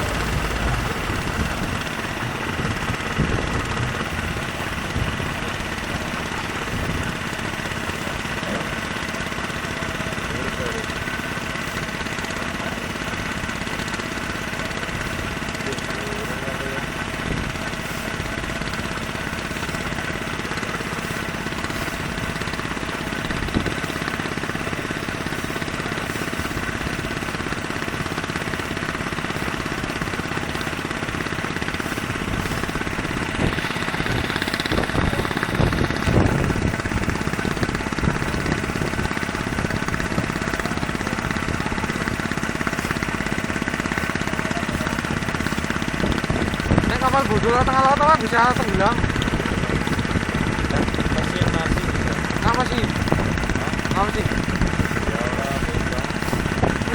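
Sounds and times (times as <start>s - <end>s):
boat engine knocking: 0.0s - 56.9s.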